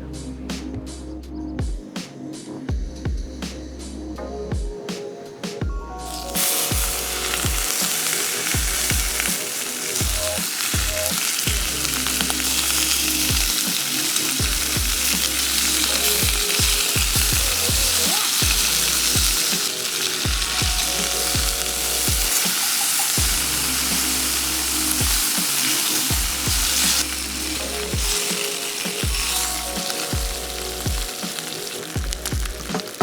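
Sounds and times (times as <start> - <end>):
food sizzling in a pan: 6.1 - 33.0.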